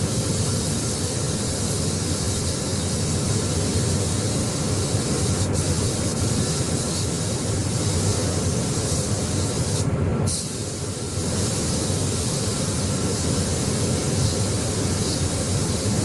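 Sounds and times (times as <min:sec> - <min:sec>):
paint spray gun hissing: 0:00.0 - 0:16.0.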